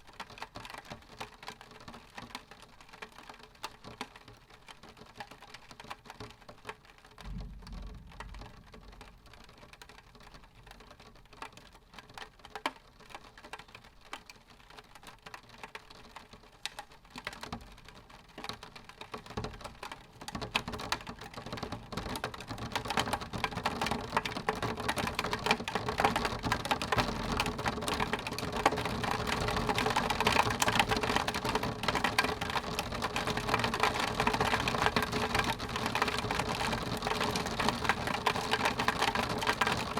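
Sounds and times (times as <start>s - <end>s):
rain tapping on window glass: 0.1s - 39.9s.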